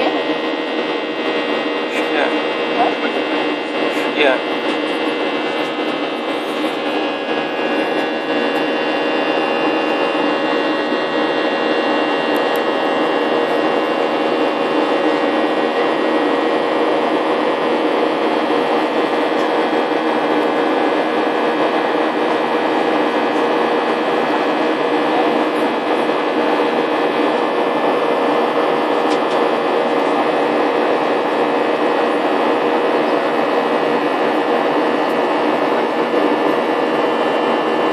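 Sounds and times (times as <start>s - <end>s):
engine whining tones: 0.0s - 37.9s.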